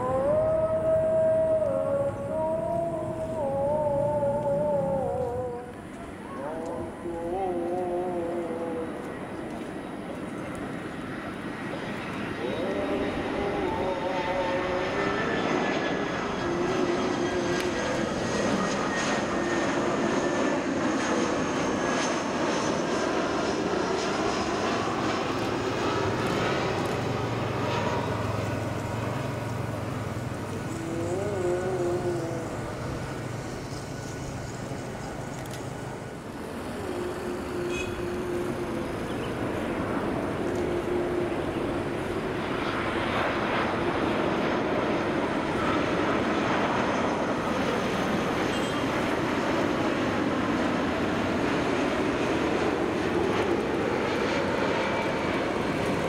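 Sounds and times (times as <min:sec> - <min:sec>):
jet airliner engines roaring: 0:00.0 - 0:56.0.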